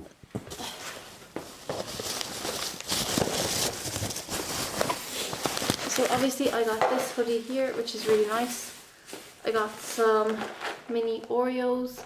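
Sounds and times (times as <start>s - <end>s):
shopping bag rustling and crinkling: 0.6s - 11.1s.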